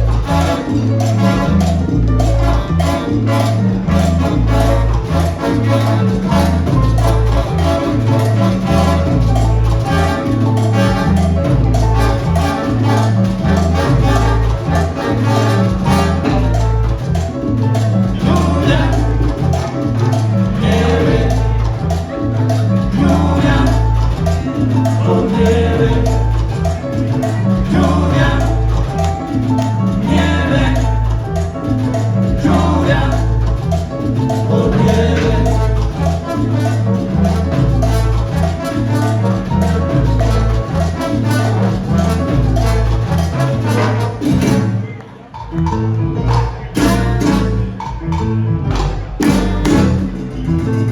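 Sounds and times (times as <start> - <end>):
percussion: 0.0 - 50.9
repeating bass line: 0.0 - 50.9
salsa band playing live: 0.0 - 50.9.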